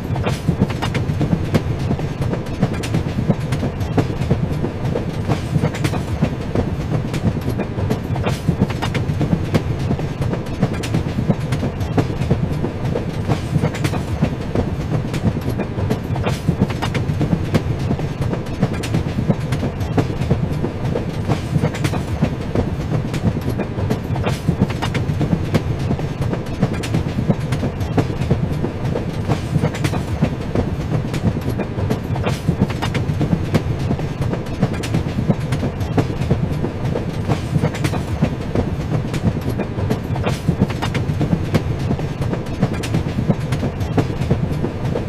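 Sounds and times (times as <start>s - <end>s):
train rumbling on track: 0.0s - 45.0s
wheels clicking over rail joints: 0.0s - 45.0s.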